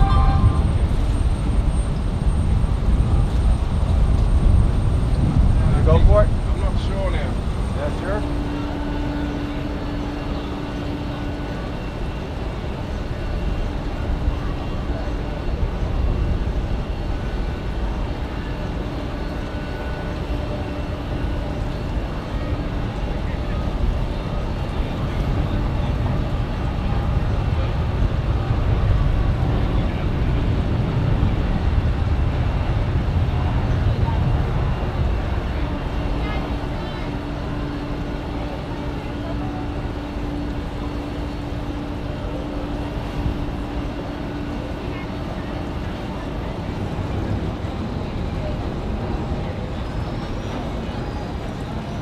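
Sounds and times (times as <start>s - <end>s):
faint whining tones: 0.0s - 52.0s
jet engines rumbling: 0.0s - 52.0s.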